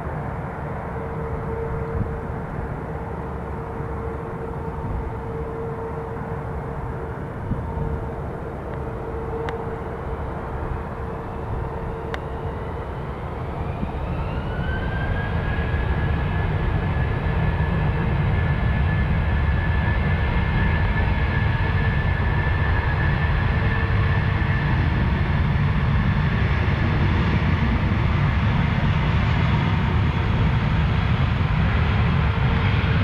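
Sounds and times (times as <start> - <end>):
jet engine whine: 0.0 - 33.0.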